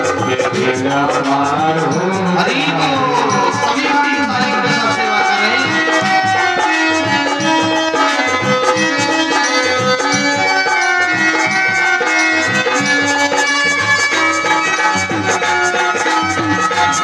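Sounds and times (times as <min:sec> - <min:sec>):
banjo playing sustained melody: 0:00.0 - 0:17.0
steady percussion beat: 0:00.0 - 0:17.0.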